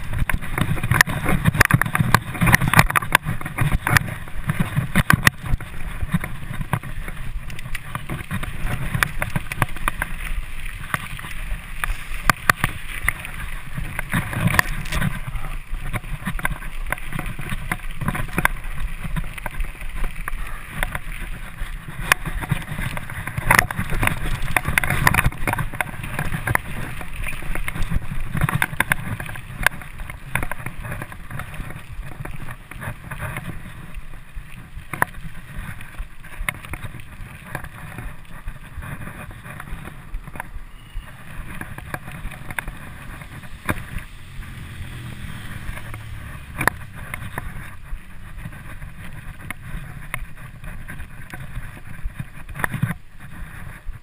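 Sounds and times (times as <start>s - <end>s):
bike rattling over bumps: 0.0s - 54.0s
bike tyres rumbling on dirt: 0.0s - 54.0s
wind on microphone: 0.0s - 54.0s.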